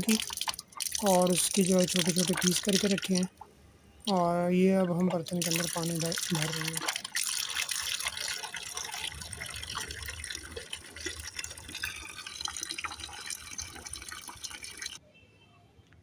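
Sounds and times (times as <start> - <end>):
water splashing into a pot: 0.0 - 3.4, 4.1 - 15.0.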